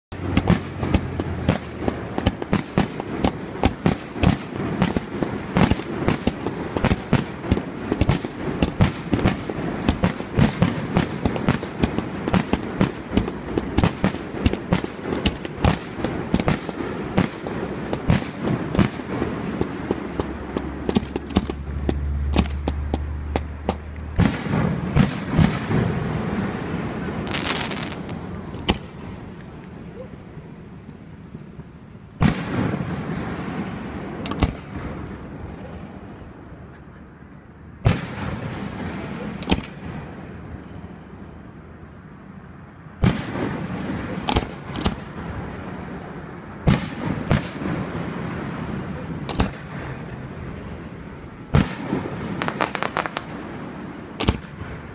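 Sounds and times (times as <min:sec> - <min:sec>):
fireworks booming with echo: 0:00.1 - 0:36.7, 0:37.8 - 0:41.2, 0:43.0 - 0:54.9.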